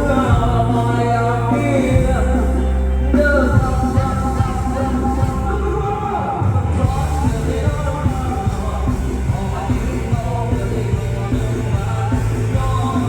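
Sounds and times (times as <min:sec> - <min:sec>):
bass and drum beat: 0:00.0 - 0:13.0
live band music: 0:00.0 - 0:13.0
person singing: 0:00.0 - 0:13.0.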